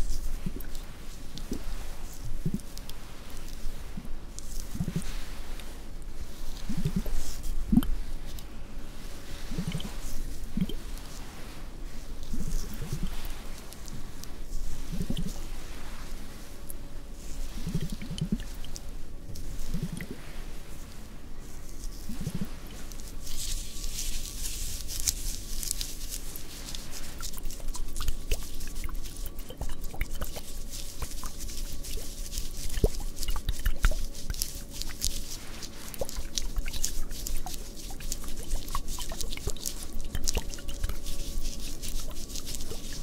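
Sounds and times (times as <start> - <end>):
faint hiss: 0.0 - 43.0.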